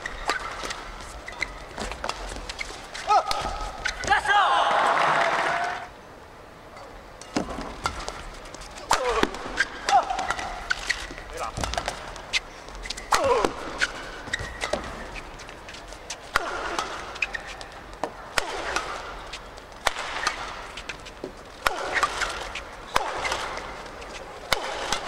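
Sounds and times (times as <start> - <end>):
racket hitting shuttlecock: 0.0 - 4.1, 7.2 - 15.0, 16.1 - 25.0
shoes squeaking on court floor: 0.0 - 4.3, 7.3 - 25.0.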